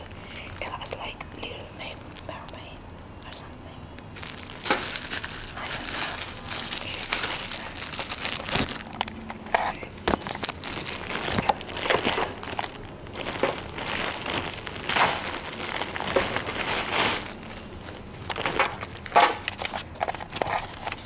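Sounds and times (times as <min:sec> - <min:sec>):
plastic packaging crinkling: 0:00.0 - 0:02.5, 0:04.0 - 0:21.0.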